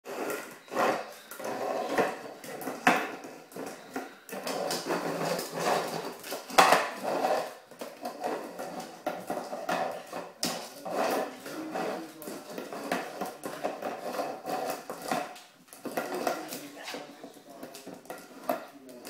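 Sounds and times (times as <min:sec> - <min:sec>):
bowl scraping and knocking on tiles: 0:00.0 - 0:19.0.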